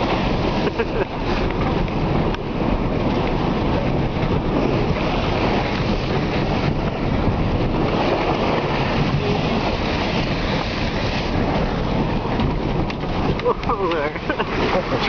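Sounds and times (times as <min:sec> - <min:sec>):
water splashing against truck: 0:00.0 - 0:15.0.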